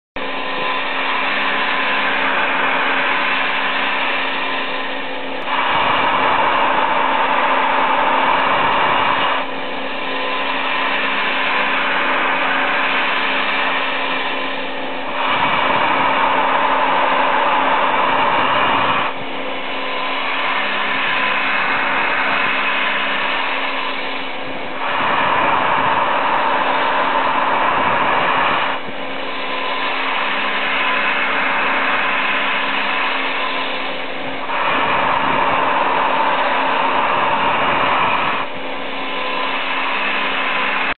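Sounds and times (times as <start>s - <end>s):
constant hum: 0.2s - 40.9s
milling machine cutting plastic: 0.2s - 40.9s.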